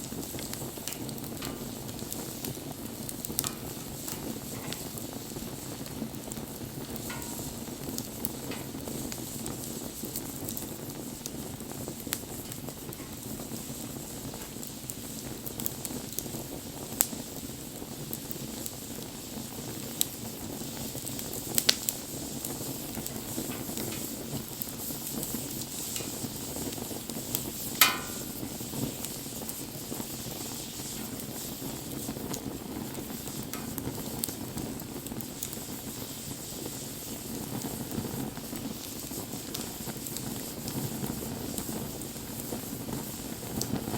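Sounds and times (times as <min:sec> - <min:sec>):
fire crackles and pops: 0:00.0 - 0:43.9
wood fire rushing: 0:00.0 - 0:43.9.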